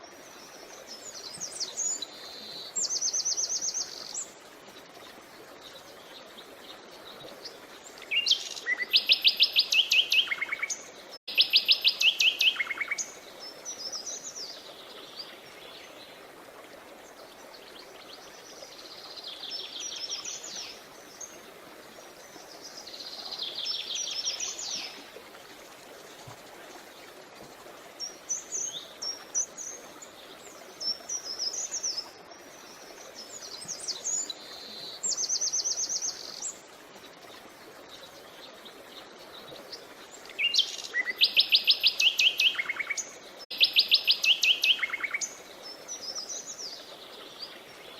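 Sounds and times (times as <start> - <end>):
flowing creek: 0.0 - 47.9.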